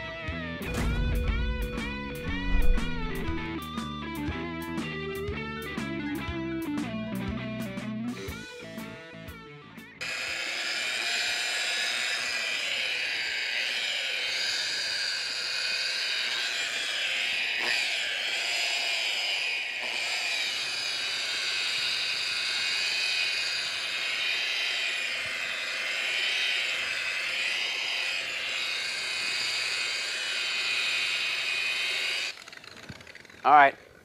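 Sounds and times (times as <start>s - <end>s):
electric polisher whining: 0.0s - 6.0s, 8.3s - 34.0s.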